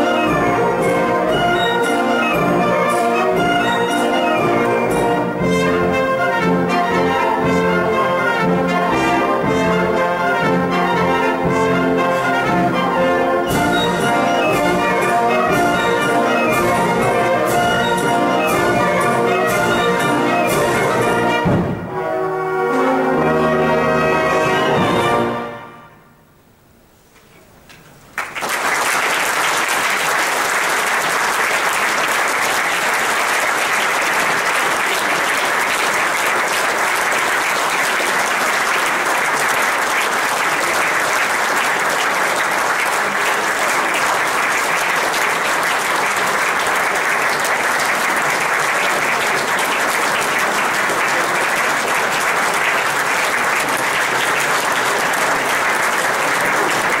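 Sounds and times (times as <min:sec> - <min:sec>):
audience applause: 0:00.0 - 0:21.6, 0:28.1 - 0:57.0.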